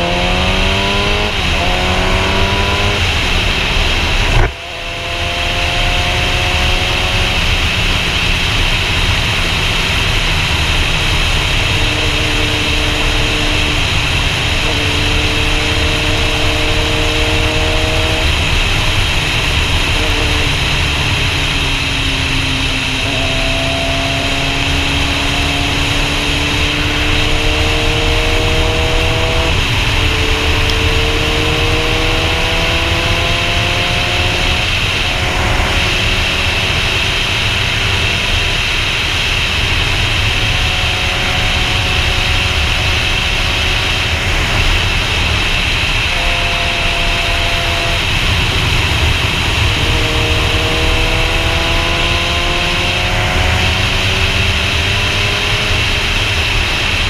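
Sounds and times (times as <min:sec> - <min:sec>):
motorcycle engine accelerating: 0:00.0 - 0:57.0
wind rush on microphone: 0:00.0 - 0:57.0.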